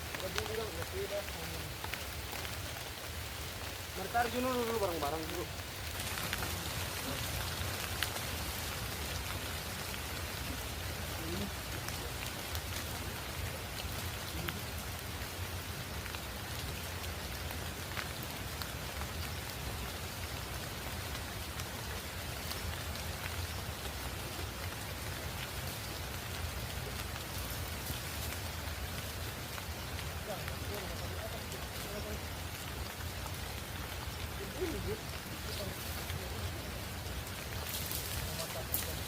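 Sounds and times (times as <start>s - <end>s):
rain falling: 0.0s - 39.0s
raindrops ticking: 0.0s - 39.0s.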